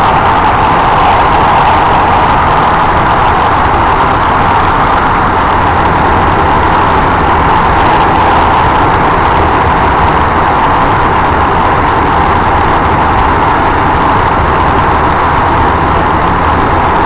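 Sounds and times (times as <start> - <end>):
electric train running in tunnel: 0.0 - 17.0.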